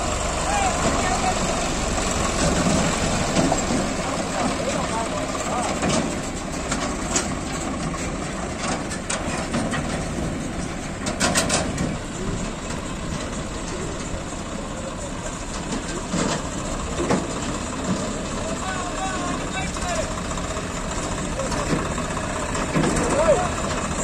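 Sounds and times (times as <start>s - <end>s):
diesel engines running: 0.0s - 24.0s
metal clanks and knocks: 2.2s - 18.3s, 20.3s - 24.0s.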